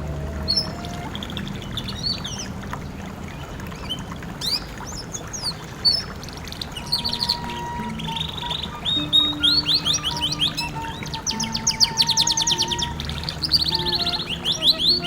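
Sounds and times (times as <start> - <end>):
birds chirping: 0.0 - 15.0
running water: 0.0 - 15.0.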